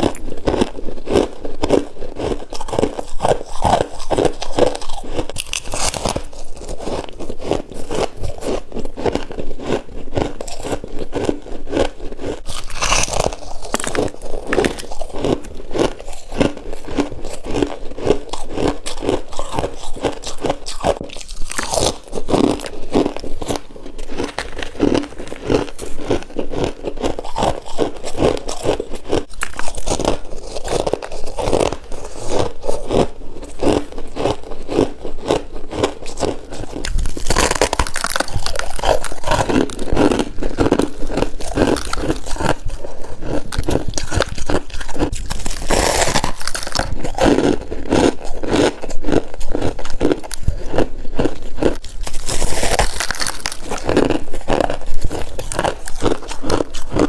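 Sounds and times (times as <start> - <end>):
frost being bitten and chewed: 0.0 - 57.0.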